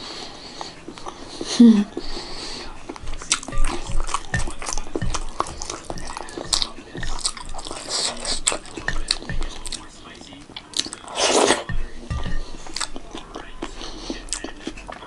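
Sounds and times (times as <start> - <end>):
wet chewing and smacking: 0.0 - 15.0.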